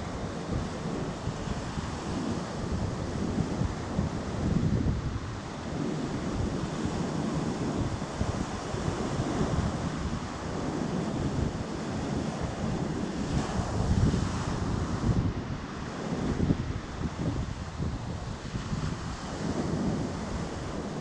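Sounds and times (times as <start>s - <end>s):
sea waves washing ashore: 0.0s - 21.0s
wind buffeting microphone: 0.0s - 21.0s.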